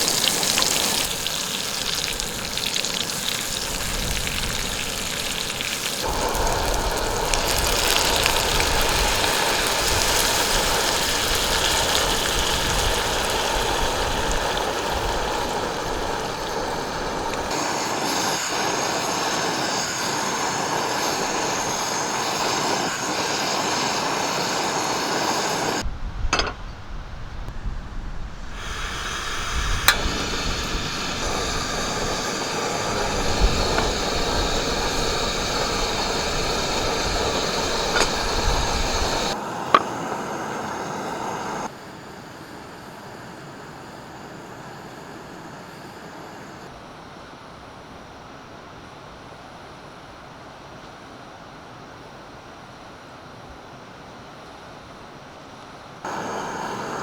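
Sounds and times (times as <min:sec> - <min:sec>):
seaside wind: 0:00.0 - 0:46.7, 0:54.8 - 0:57.0.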